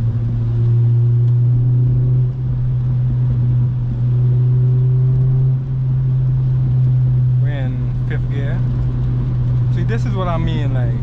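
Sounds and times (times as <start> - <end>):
car engine and exhaust running: 0.0 - 11.0.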